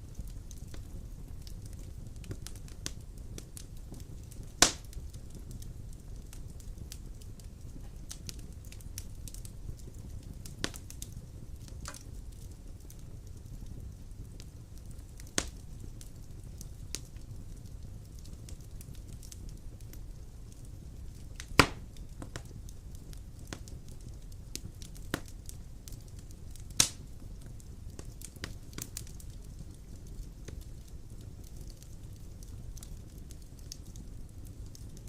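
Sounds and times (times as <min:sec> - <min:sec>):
fire crackling and popping: 0:00.0 - 0:35.0
low rumble of fire flames: 0:00.0 - 0:35.0.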